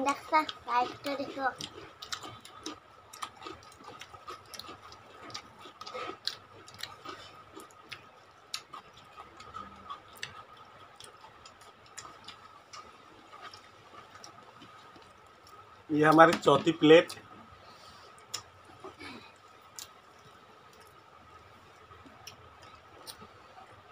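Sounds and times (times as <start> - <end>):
people chewing food: 0.0 - 23.9.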